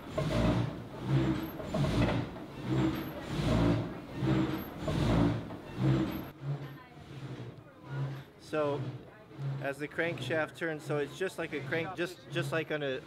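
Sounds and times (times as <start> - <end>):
frame saw rasping through log: 0.0 - 13.0
wooden mill vibrating: 0.0 - 13.0.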